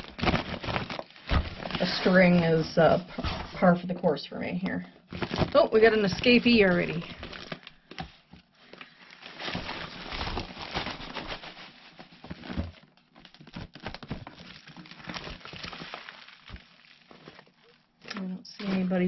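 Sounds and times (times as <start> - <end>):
plastic bag rustling and crinkling: 0.0 - 19.0.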